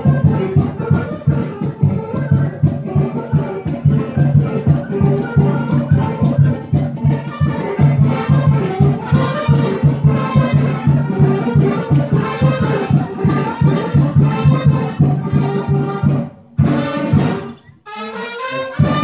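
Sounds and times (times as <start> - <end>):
quick steady drum beat: 0.0 - 17.6, 18.8 - 19.0
brass band music: 0.0 - 19.0.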